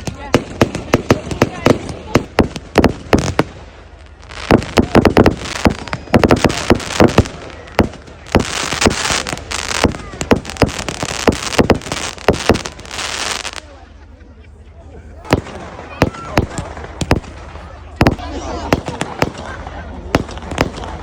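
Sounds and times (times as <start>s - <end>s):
fireworks banging: 0.0s - 13.7s, 15.2s - 21.0s
fireworks crackling: 0.0s - 13.8s, 15.2s - 21.0s.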